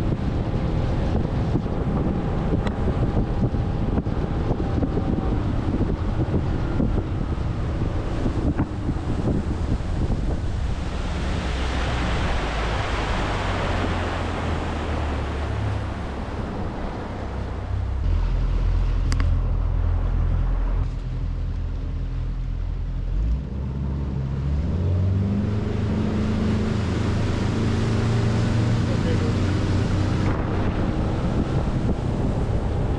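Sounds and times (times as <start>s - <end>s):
wind buffeting: 0.0s - 21.4s, 24.9s - 32.9s
boat motor humming: 0.0s - 32.9s
water noise: 0.0s - 32.9s.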